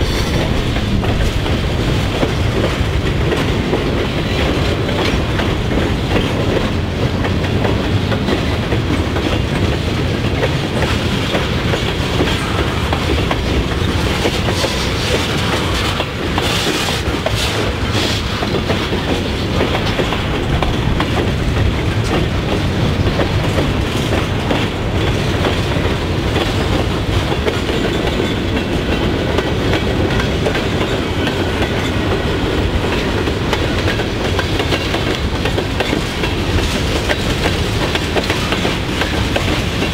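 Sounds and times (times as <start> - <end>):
train wheels rumbling on rail: 0.0 - 39.9
wheels clicking over rail joints: 0.0 - 39.9.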